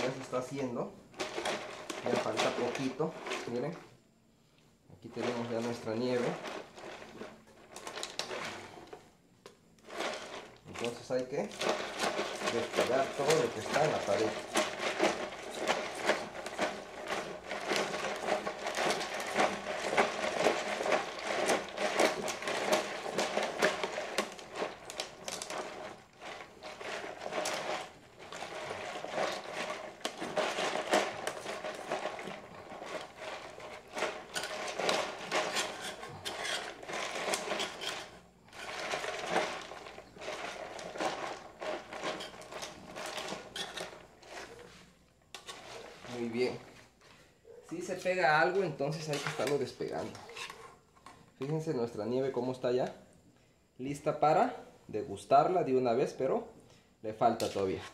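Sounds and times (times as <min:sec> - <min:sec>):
utensil scraping frozen dessert: 0:01.1 - 0:03.8, 0:05.1 - 0:09.1, 0:09.7 - 0:46.9, 0:47.8 - 0:50.8, 0:57.2 - 0:57.9.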